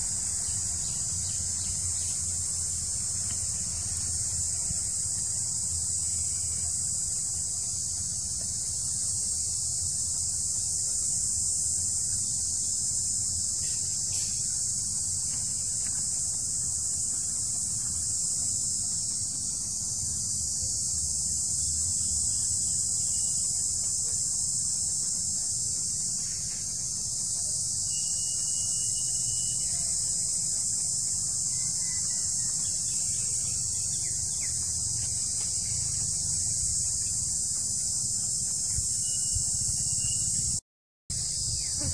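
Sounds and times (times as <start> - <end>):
high-pitched insect chorus: 0.0 - 41.9.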